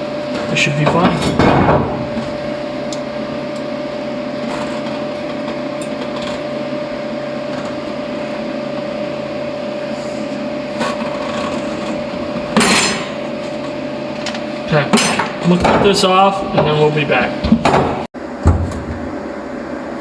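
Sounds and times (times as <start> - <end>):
machine hum with whine: 0.0 - 20.0.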